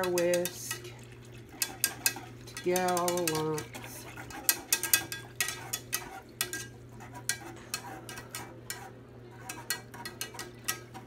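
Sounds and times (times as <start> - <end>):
steady low hum: 0.0 - 11.0
wire whisk scraping a pan: 0.0 - 11.0.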